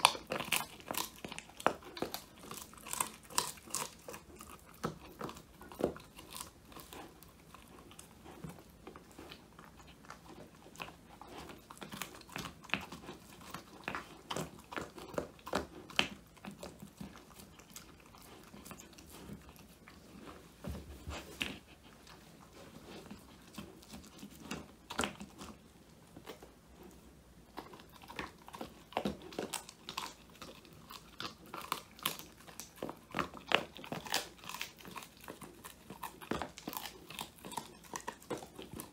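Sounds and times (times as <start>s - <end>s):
puppy chewing and crunching: 0.0s - 38.9s.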